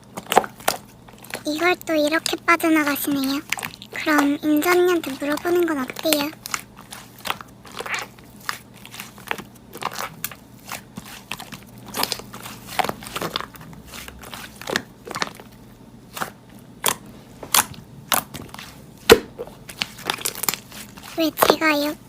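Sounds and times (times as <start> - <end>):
slime crackling and popping: 0.0 - 21.9.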